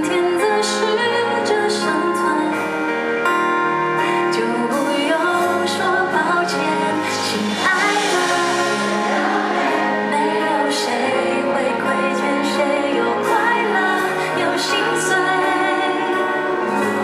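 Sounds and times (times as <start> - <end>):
woman singing: 0.0 - 3.0, 4.0 - 17.0
live band playing pop: 0.0 - 17.0.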